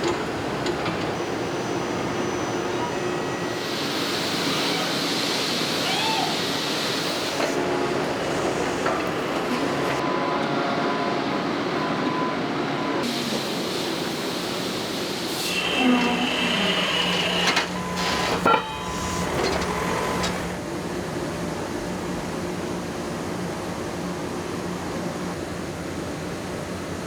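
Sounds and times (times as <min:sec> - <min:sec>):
factory machinery running: 0:00.0 - 0:27.0.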